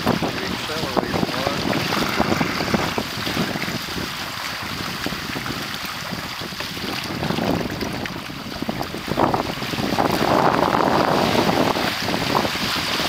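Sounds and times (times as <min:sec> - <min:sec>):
water splashing along hulls: 0:00.0 - 0:13.0
wind buffeting microphone: 0:00.0 - 0:13.0.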